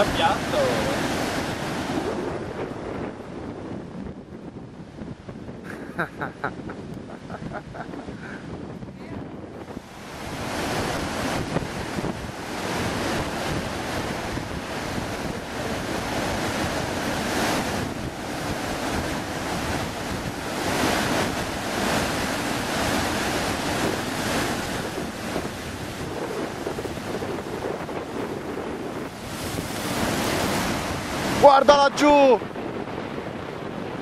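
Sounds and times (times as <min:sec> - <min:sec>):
ocean waves breaking: 0:00.0 - 0:34.0
wind buffeting microphone: 0:00.0 - 0:34.0.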